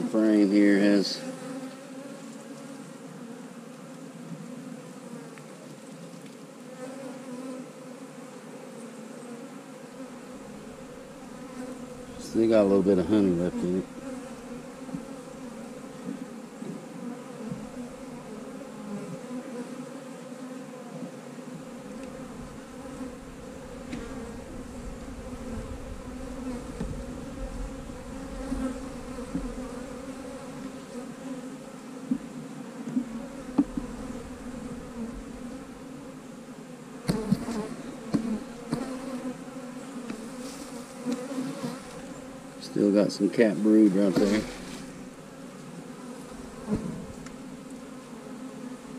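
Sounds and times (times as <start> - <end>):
honey bees buzzing: 0.0 - 48.9.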